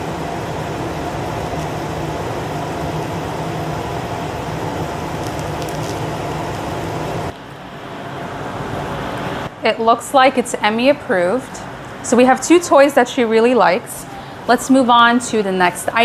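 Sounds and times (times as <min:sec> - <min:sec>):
fan-like machine humming: 0:00.0 - 0:16.0.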